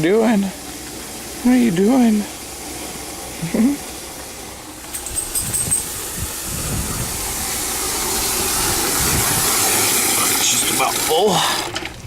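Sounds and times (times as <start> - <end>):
water running into a bucket: 0.0 - 12.0.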